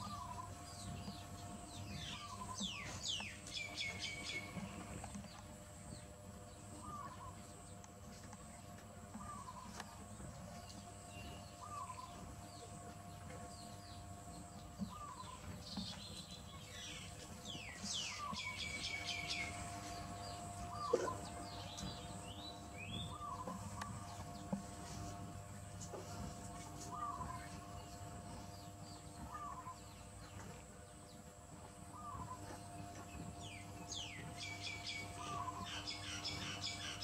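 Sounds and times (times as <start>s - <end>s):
birds chirping: 0.0s - 37.0s
faint steady hum: 0.0s - 37.0s.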